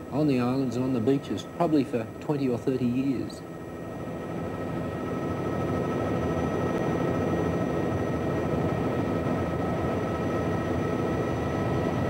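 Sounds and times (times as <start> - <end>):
helicopter rotor rumble: 0.0 - 12.0
high turbine whine: 0.0 - 12.0.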